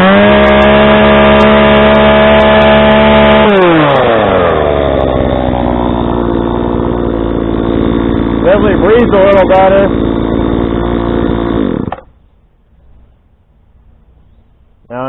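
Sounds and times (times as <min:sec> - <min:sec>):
chainsaw revving and idling: 0:00.0 - 0:12.3.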